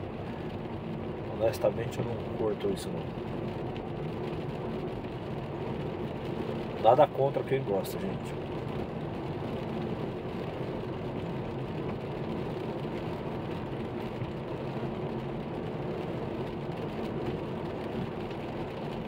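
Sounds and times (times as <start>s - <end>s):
car engine and tyres on wet road: 0.0s - 19.0s.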